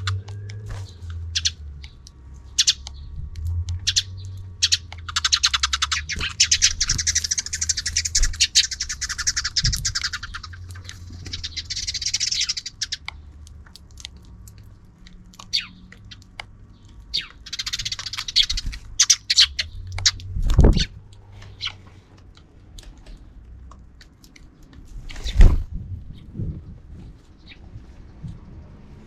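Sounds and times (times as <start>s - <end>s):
sparrows chirping: 0.0s - 29.0s.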